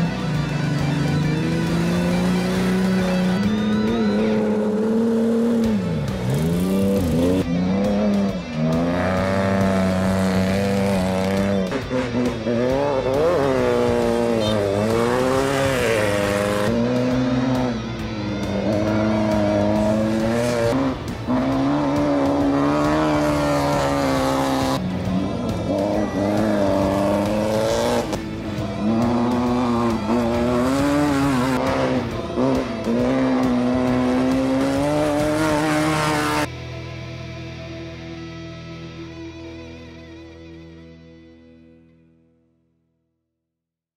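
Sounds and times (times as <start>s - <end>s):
off-road engines revving: 0.0s - 36.5s.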